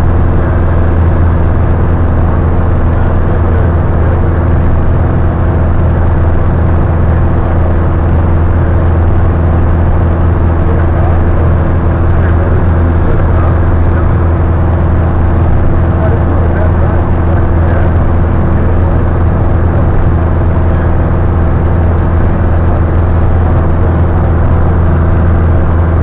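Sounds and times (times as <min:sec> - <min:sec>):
aircraft engine droning: 0:00.0 - 0:26.0.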